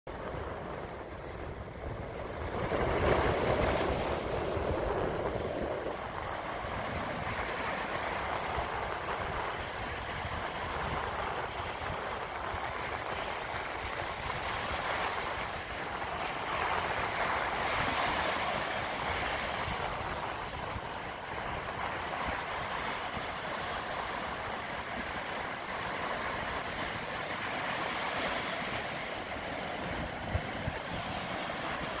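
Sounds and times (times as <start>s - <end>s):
sea waves breaking on beach: 0.1s - 32.0s.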